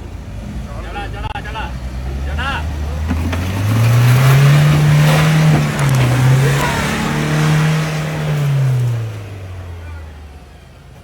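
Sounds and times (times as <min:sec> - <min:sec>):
vehicle engine revving hard: 0:00.0 - 0:11.0.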